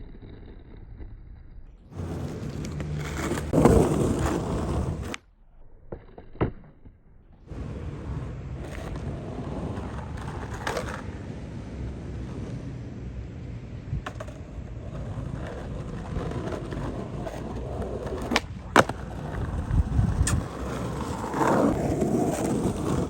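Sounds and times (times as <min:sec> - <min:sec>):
skateboard clack: 0:00.0 - 0:05.2, 0:05.9 - 0:23.0
skateboard wheels rolling: 0:00.0 - 0:23.0.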